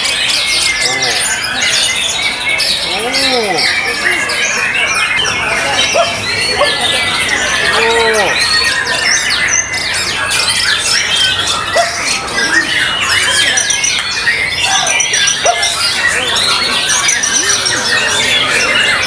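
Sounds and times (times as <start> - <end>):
other songbirds singing: 0.0 - 19.0.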